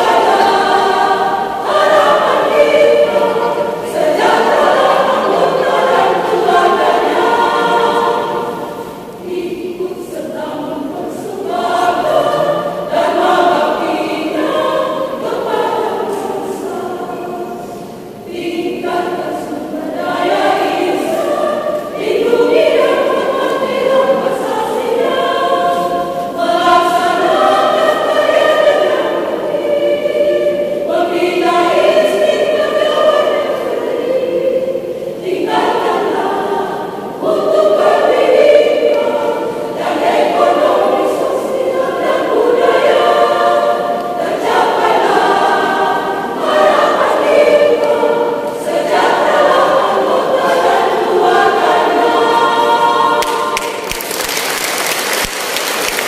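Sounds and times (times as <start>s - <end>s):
women's choir singing: 0.0s - 56.0s.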